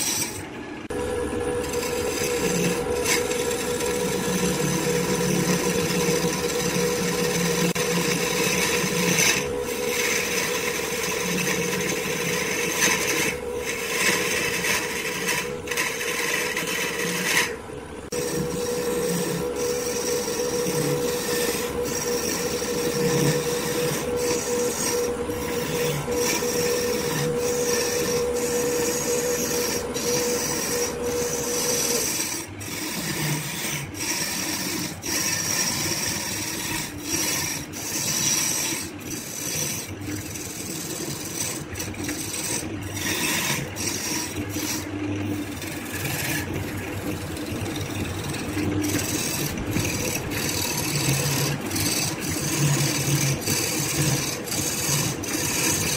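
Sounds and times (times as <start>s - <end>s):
turning tool rasping wood: 0.0s - 55.9s
wood lathe humming: 0.0s - 55.9s.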